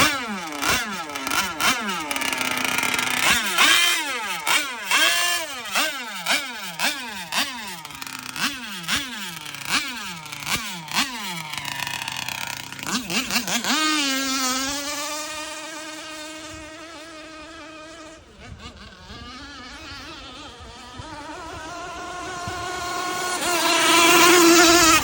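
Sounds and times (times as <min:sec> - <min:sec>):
toy boat motor buzzing whine: 0:00.0 - 0:25.0.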